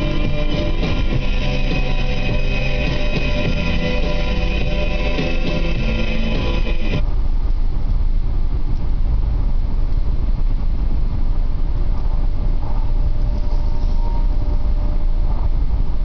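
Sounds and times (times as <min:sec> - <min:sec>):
car interior road noise: 0:00.0 - 0:16.0.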